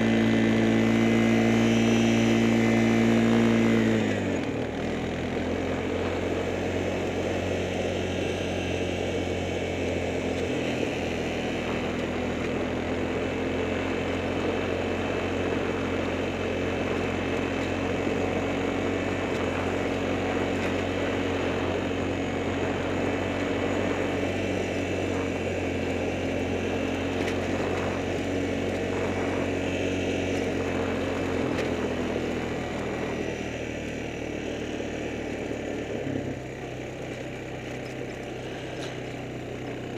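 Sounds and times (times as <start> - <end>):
motor running steadily: 0.0 - 39.9.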